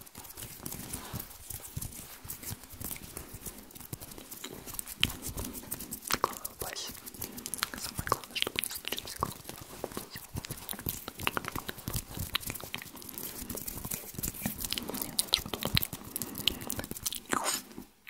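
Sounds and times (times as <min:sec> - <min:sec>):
fingers rubbing near microphone: 0:00.0 - 0:17.8
wet mouth clicks: 0:02.4 - 0:17.9.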